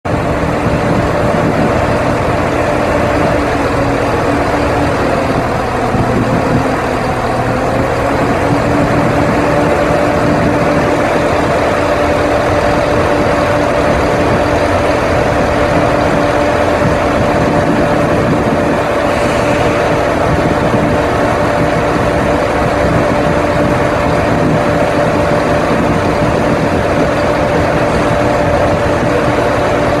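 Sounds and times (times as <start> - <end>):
diesel engine idling: 0.1 - 30.0.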